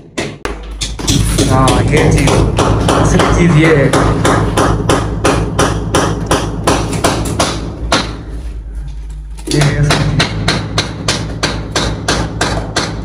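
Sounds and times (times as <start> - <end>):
rhythmic hammering: 0.0 - 8.6, 9.4 - 13.0.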